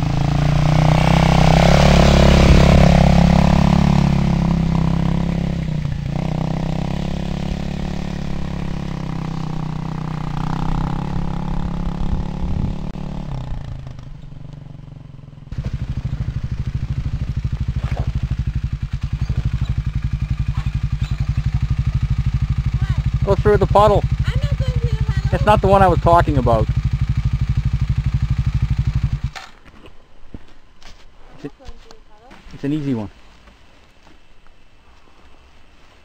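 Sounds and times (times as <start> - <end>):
motorcycle engine idling at low revs: 0.0 - 29.3
dirt bike engine revving: 0.0 - 29.4.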